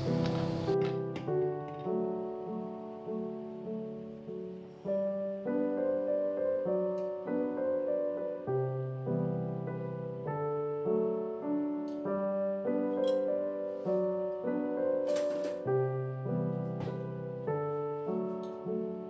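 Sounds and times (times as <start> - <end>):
gentle solo piano music: 0.0 - 19.0.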